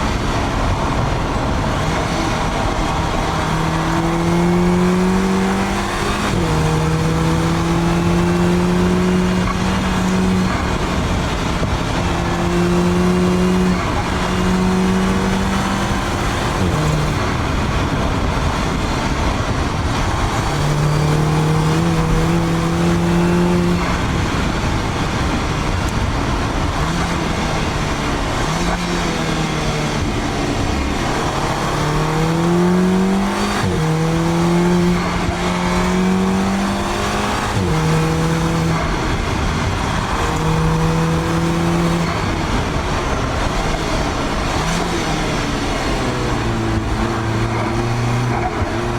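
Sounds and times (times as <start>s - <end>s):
car engine pulling: 0.0s - 48.9s
road noise: 0.0s - 48.9s.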